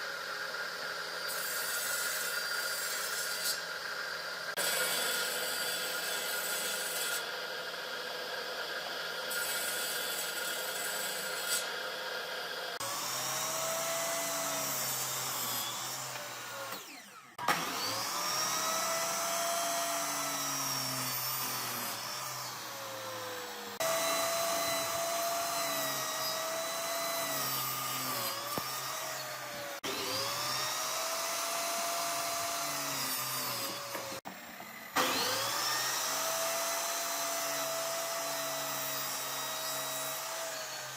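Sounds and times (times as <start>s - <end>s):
power tool motor whining: 0.0s - 40.9s.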